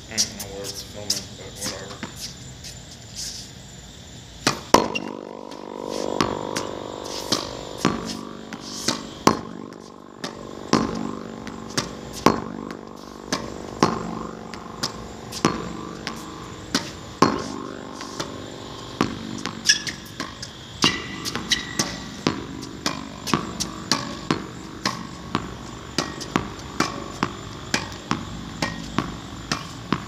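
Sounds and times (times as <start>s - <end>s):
steady hum: 0.0s - 30.0s
tennis ball hitting wall and racket: 4.4s - 30.0s.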